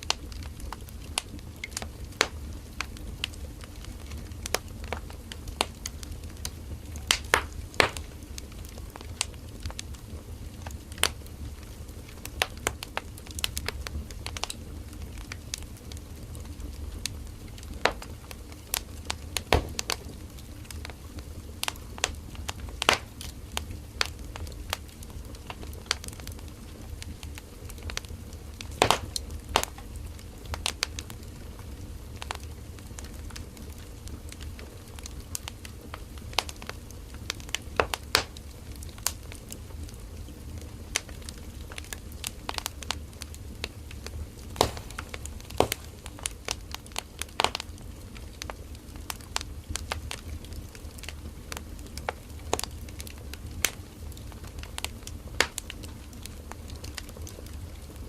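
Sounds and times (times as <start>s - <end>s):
campfire crackling and snapping: 0.0s - 58.0s
low rumble of flames: 0.0s - 58.0s.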